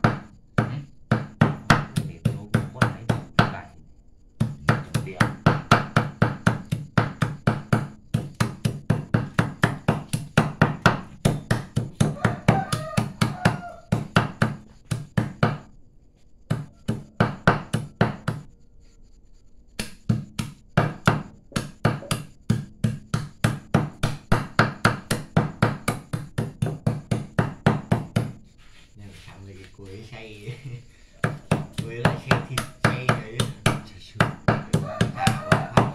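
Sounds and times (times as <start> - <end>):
cleaver chopping meat on wood: 0.0 - 3.6, 4.4 - 15.7, 16.5 - 18.5, 19.8 - 28.4, 31.2 - 35.9.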